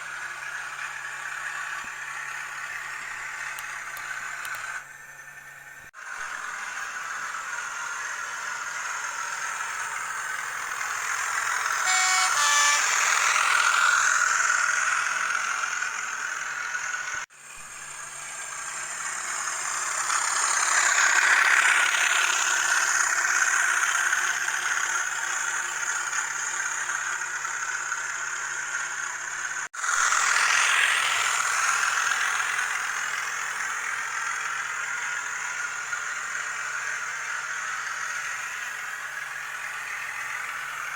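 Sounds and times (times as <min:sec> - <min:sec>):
model train diesel engine sound: 0:00.0 - 0:40.9.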